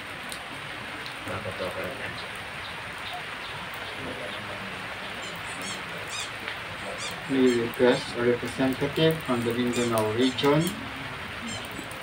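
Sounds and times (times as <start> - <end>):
faint murmured voices: 0.0 - 12.0
rain falling: 0.0 - 12.0.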